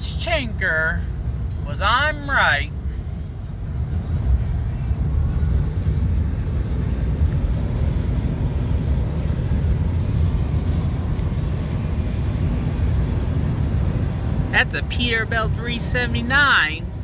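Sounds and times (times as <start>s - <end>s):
truck traffic rumble: 0.0s - 17.0s.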